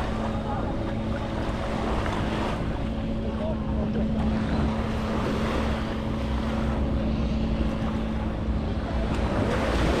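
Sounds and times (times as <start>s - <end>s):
boat engine rumbling: 0.0s - 10.0s.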